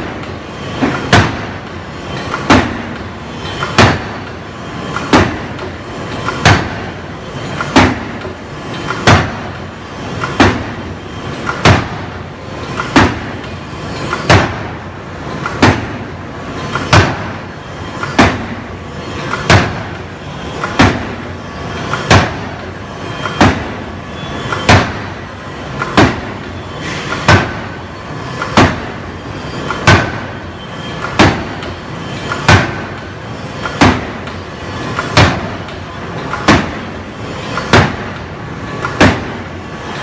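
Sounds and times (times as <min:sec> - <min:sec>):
forging hammer striking metal: 0:00.0 - 0:09.6, 0:10.2 - 0:14.8, 0:16.6 - 0:39.5.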